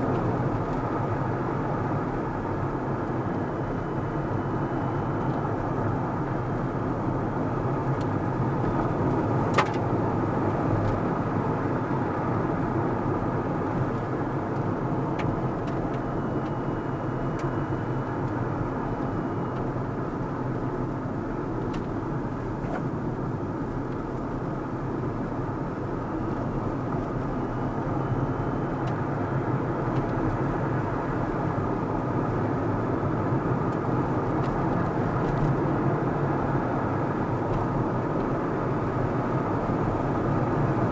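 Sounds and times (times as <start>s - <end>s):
car tyre and engine noise: 0.0s - 40.9s.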